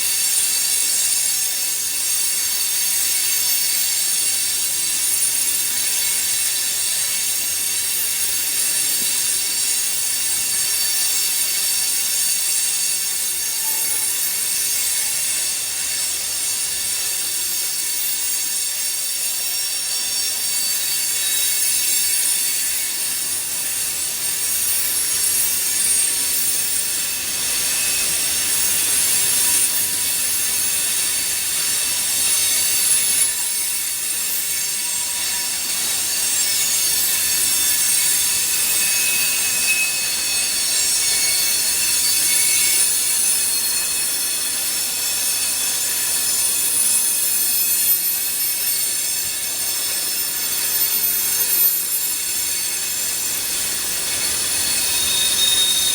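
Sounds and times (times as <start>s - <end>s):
freight train wheels screeching: 0.0s - 55.9s.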